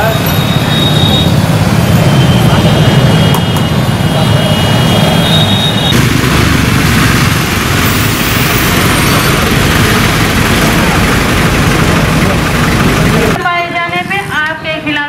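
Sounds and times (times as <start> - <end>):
vehicle engine and road noise: 0.0 - 13.4.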